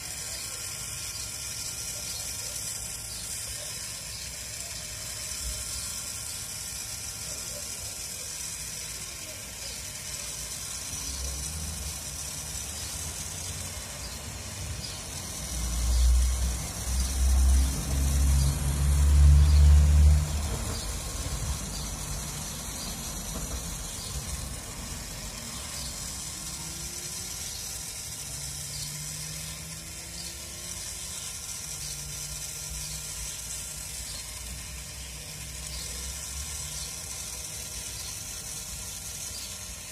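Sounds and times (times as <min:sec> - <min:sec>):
gears clicking: 0:00.0 - 0:39.9
rotisserie motor turning: 0:00.0 - 0:39.9.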